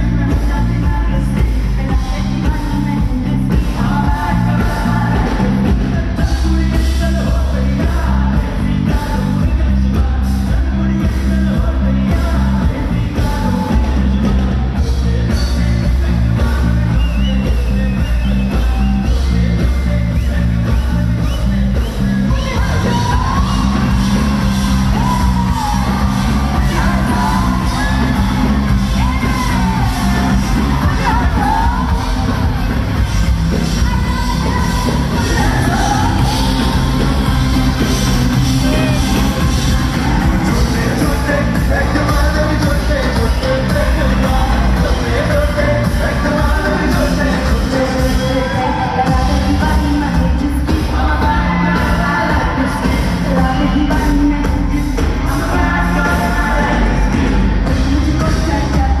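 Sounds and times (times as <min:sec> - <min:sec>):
heavy bass beat: 0:00.0 - 0:59.0
live band playing pop music: 0:00.0 - 0:59.0
person singing into microphone: 0:00.0 - 0:59.0.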